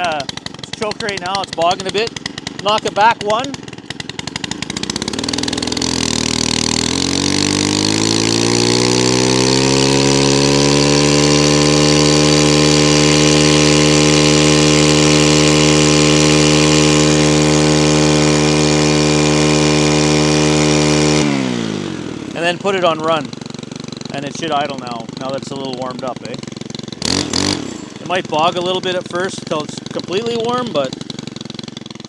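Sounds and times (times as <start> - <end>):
trimmer engine running: 0.0 - 32.0.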